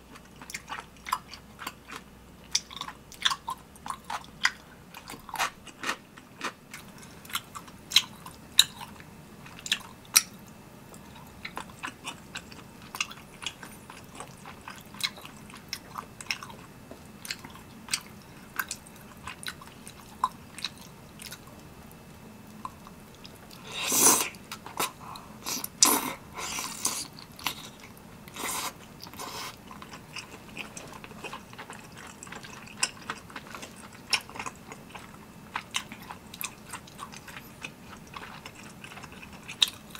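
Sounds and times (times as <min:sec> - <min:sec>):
close chewing with wet smacks: 0:00.1 - 0:23.6, 0:26.9 - 0:39.9.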